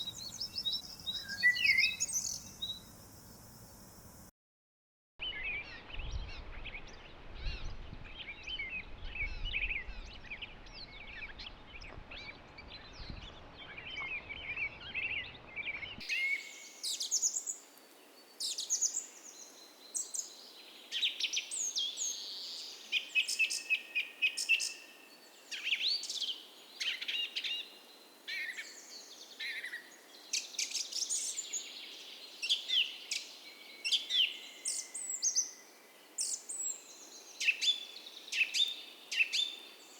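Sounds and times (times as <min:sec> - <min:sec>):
songbirds chirping and trilling: 0:00.0 - 0:04.3, 0:08.0 - 0:39.9.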